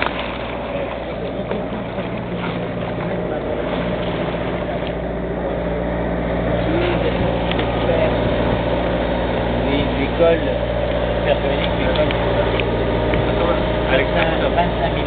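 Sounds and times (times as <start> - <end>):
boat engine running: 0.0 - 15.0
water rushing past hull: 0.0 - 15.0.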